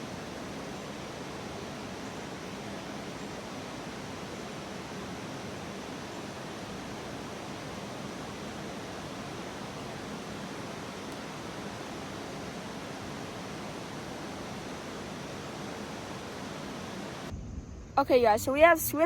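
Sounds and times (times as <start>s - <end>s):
creek water rushing: 0.0s - 17.3s.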